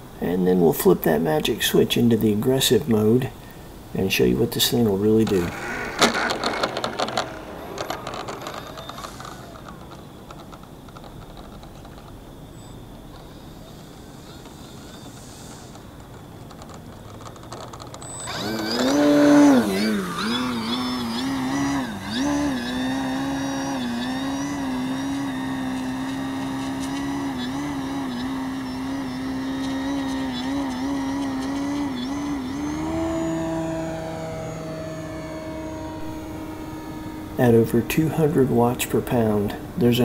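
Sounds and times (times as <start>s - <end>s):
model plane motor whine: 4.7s - 40.0s.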